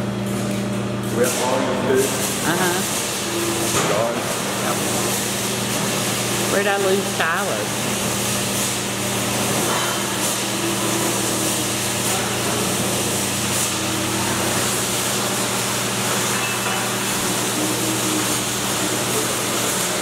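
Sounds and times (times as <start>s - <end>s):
workshop machinery rushing: 1.1s - 20.0s.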